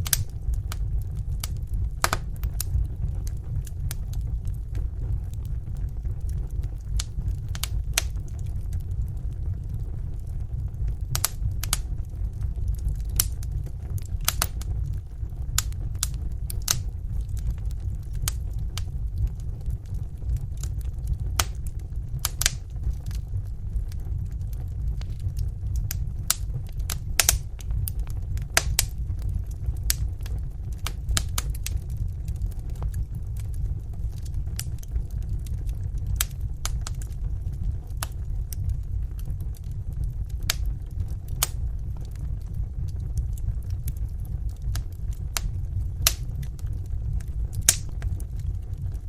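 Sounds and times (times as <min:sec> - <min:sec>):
fire flames rumbling: 0:00.0 - 0:49.0
wood fire crackling and popping: 0:00.0 - 0:49.0.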